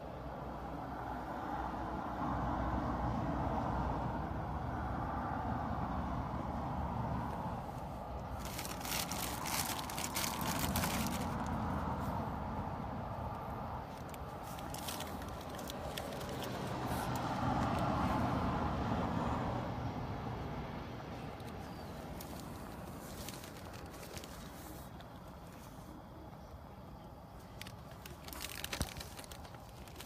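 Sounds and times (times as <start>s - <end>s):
vehicle passing: 0.5s - 24.9s.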